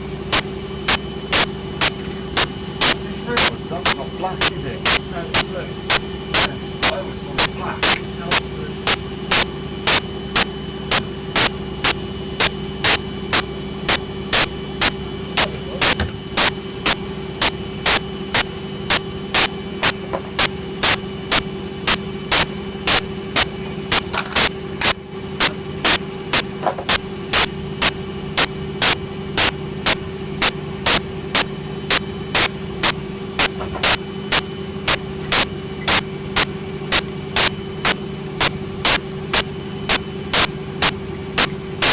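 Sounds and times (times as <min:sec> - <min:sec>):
washing machine motor hum: 0:00.0 - 0:41.9
sharp repeating click: 0:00.3 - 0:41.9.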